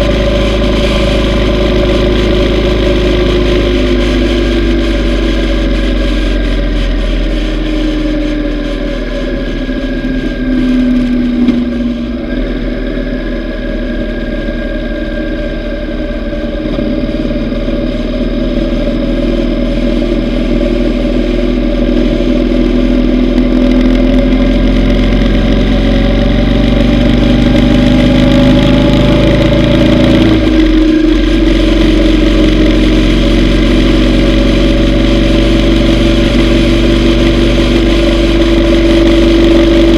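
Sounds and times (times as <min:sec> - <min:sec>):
low rush: 0:00.0 - 0:39.9
motorcycle engine on the road: 0:00.0 - 0:39.9.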